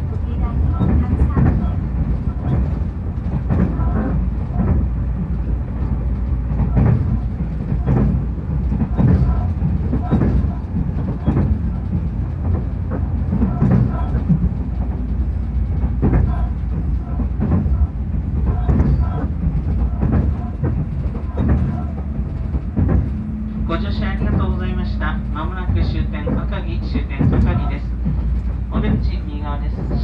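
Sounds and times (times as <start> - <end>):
train cabin rumble: 0.0 - 30.0
wheels clacking over rail joints: 0.0 - 30.0.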